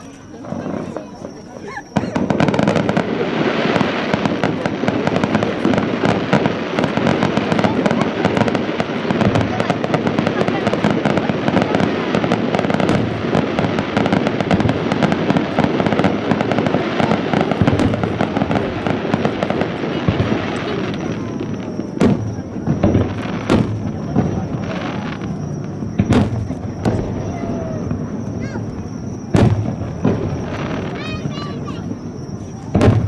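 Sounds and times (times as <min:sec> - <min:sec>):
fireworks bangs and crackle: 0:00.0 - 0:33.0.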